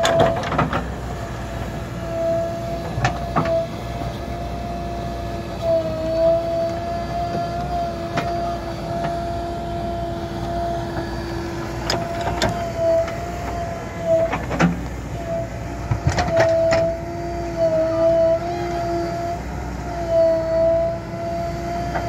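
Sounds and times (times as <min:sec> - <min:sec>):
diesel engine under load: 0:00.0 - 0:22.0
hydraulic whine: 0:00.0 - 0:22.0.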